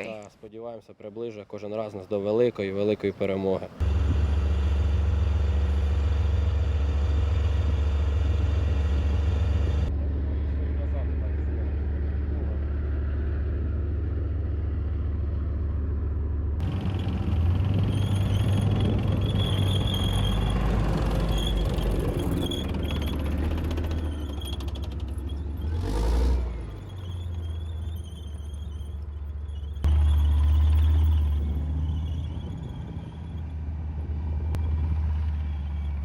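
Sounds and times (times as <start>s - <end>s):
heavy vehicle engine droning: 3.7s - 36.0s.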